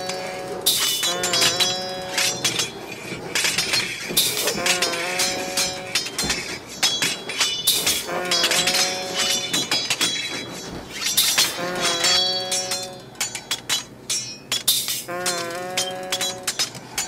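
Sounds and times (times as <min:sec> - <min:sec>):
rapid metallic and glassy clinks: 0:00.0 - 0:17.0.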